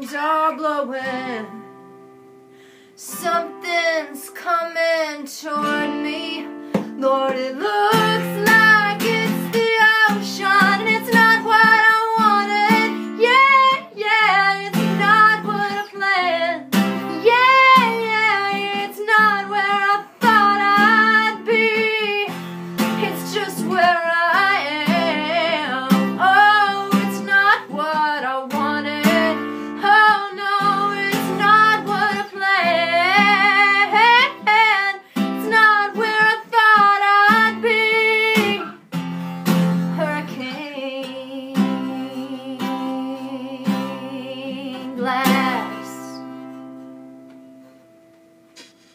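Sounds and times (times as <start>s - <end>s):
woman singing: 0.0s - 1.8s, 3.0s - 39.0s, 39.8s - 46.5s
acoustic guitar strumming: 0.1s - 48.9s.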